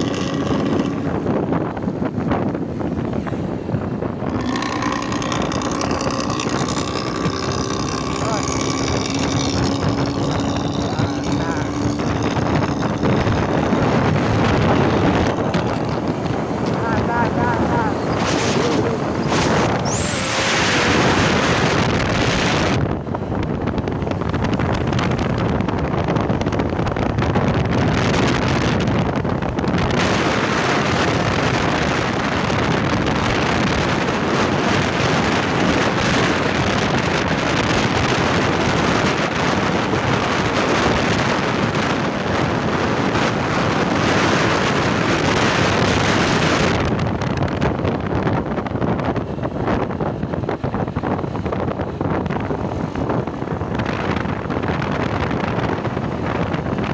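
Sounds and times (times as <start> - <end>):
bus engine with growling exhaust: 0.0 - 56.9
road noise: 0.0 - 56.9
wind on microphone: 0.0 - 56.9.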